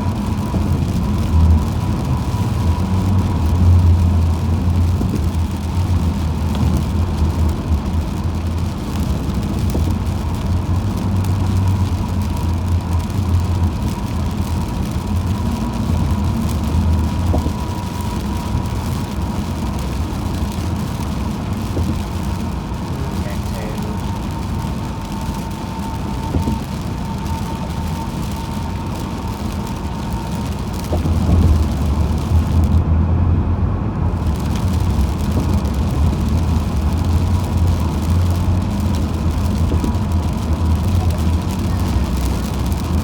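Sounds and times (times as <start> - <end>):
car driving on highway: 0.0 - 43.0.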